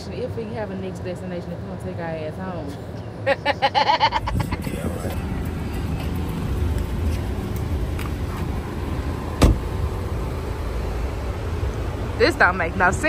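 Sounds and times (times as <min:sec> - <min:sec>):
car road rumble from inside: 0:01.3 - 0:13.0.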